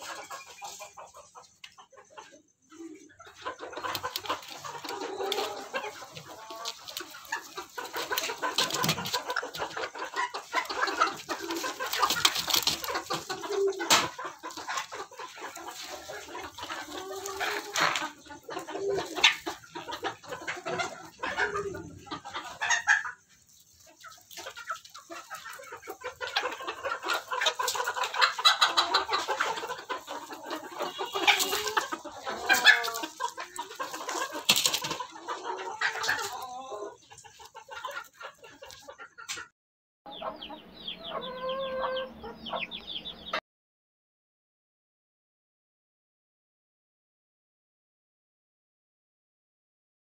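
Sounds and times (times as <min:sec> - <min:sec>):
chickens clucking and squawking: 0:00.0 - 0:39.5, 0:40.1 - 0:43.4.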